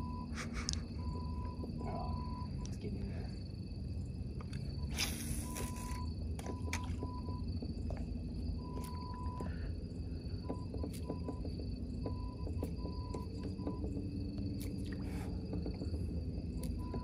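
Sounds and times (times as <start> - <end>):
crickets trilling: 0.0 - 17.0
insect on-off calls: 0.0 - 17.0
low background rumble: 0.0 - 17.0.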